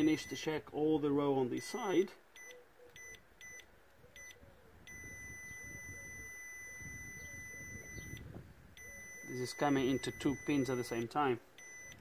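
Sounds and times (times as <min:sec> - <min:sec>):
multimeter beeps: 0:00.0 - 0:00.6, 0:01.4 - 0:12.0.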